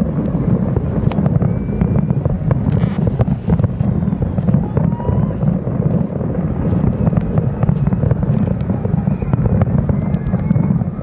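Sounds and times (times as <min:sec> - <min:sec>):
distant fireworks rumble: 0:00.0 - 0:11.0
fireworks pops and crackles: 0:00.0 - 0:11.0
wind buffeting microphone: 0:00.0 - 0:11.0.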